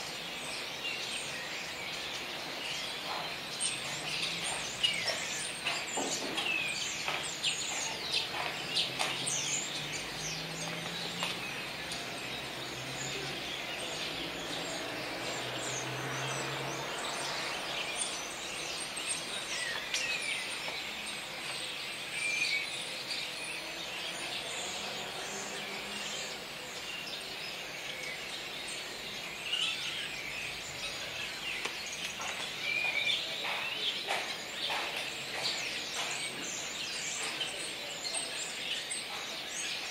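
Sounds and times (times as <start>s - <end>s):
starlings chattering: 0.0s - 39.9s.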